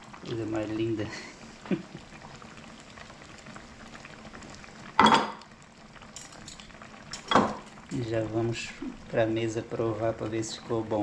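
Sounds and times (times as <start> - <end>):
stew bubbling in a pot: 0.0 - 11.0.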